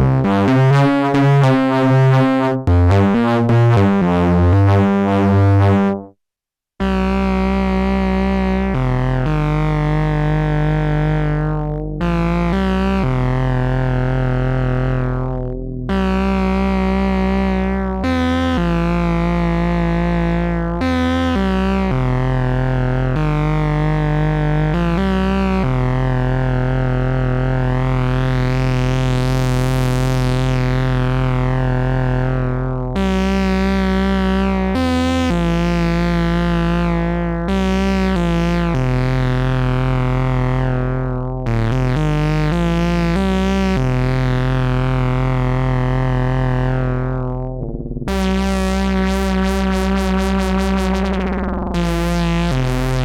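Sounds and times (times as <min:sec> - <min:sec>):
buzzy analog synthesizer notes: 0:00.0 - 0:06.1, 0:06.8 - 0:53.0.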